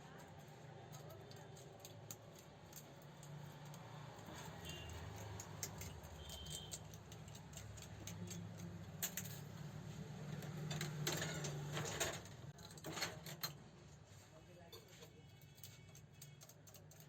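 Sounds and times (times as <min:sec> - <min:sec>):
metallic clicks and clinks: 0:00.0 - 0:09.6, 0:10.4 - 0:13.6, 0:15.3 - 0:17.0.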